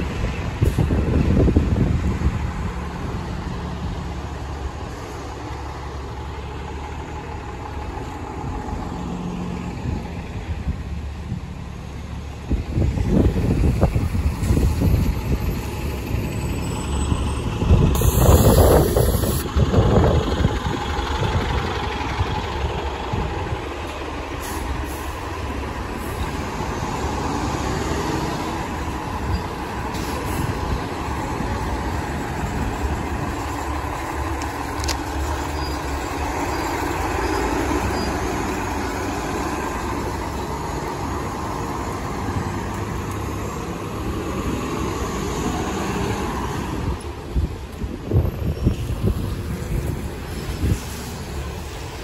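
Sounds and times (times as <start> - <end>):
buses moving on wet road: 0.0 - 52.0
street traffic: 0.0 - 52.0.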